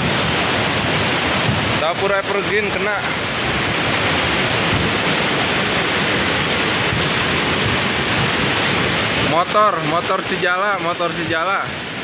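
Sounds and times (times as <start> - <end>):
flood water rushing: 0.0 - 12.0.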